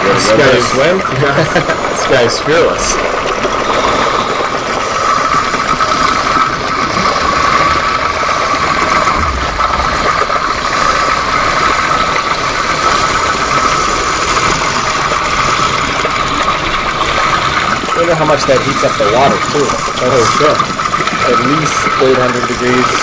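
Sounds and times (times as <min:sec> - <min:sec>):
constant hum-like tone: 0:00.0 - 0:23.0
underwater rattling noise: 0:00.0 - 0:23.0.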